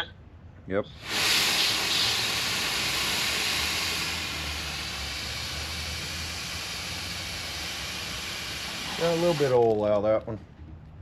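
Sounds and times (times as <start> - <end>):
pressurized gas hissing: 1.0 - 9.8.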